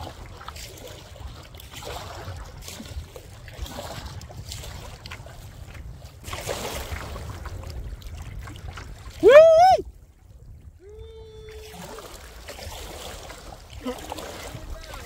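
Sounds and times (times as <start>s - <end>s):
paddle water splashes: 0.0s - 15.0s
wind rumble on microphone: 0.0s - 15.0s.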